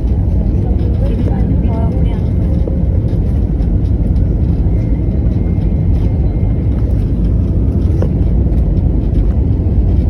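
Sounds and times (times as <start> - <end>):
aeroplane engine rumble: 0.0 - 10.0.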